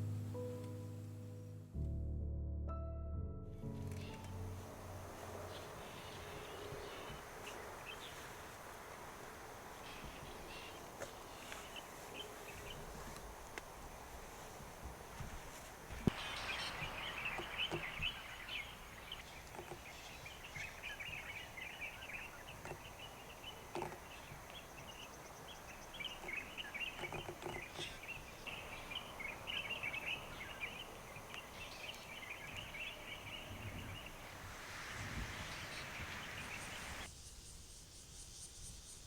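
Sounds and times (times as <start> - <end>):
birds and insects chirping: 4.0 - 39.0.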